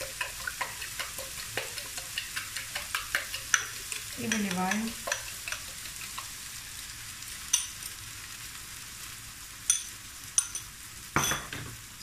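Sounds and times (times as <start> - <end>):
eggs sizzling in frying pan: 0.0 - 12.0.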